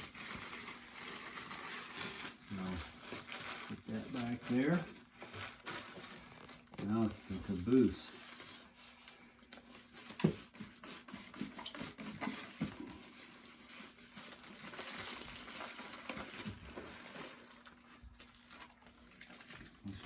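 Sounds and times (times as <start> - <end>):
cardboard packaging rustling: 0.0 - 20.0.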